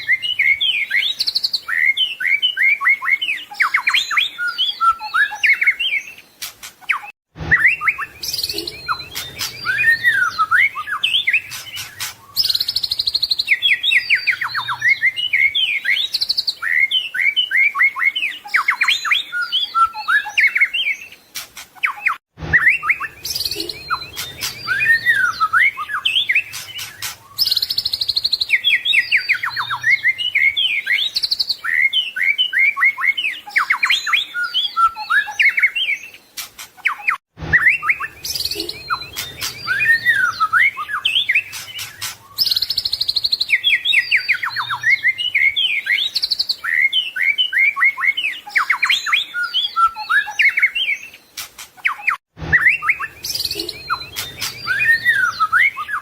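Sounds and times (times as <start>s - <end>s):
songbird singing whistles and trills: 0.0s - 56.0s.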